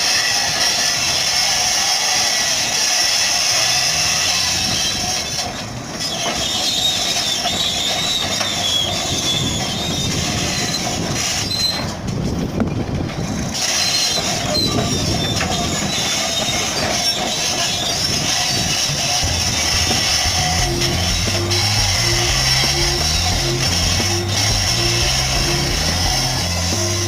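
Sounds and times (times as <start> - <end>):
bulldozer diesel engine running: 0.0 - 27.0
crawler tracks squealing and clanking: 0.0 - 27.0.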